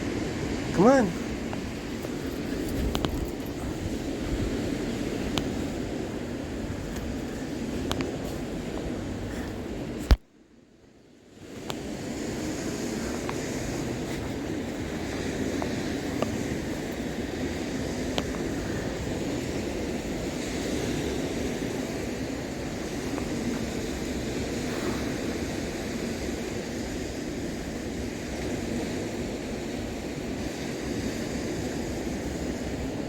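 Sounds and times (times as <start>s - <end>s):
wind buffeting microphone: 0.0s - 10.2s, 11.4s - 33.0s.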